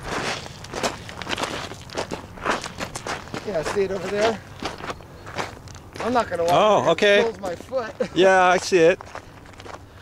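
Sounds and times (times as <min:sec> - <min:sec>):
footsteps crunching on gravel: 0:00.0 - 0:10.0.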